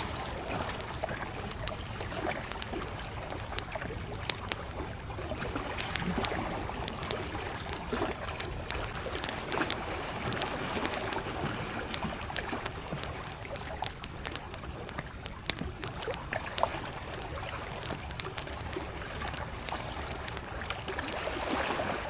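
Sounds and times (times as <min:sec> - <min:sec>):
campfire crackling: 0:00.0 - 0:22.0
small waves lapping: 0:00.0 - 0:22.0.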